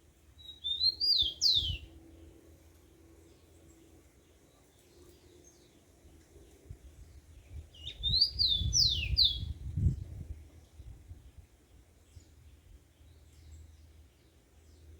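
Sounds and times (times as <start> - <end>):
songbird singing: 0.0 - 14.9.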